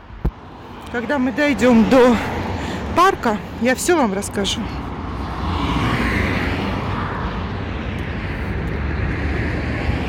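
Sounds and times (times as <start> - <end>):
passing motor vehicles rushing: 0.0 - 10.0.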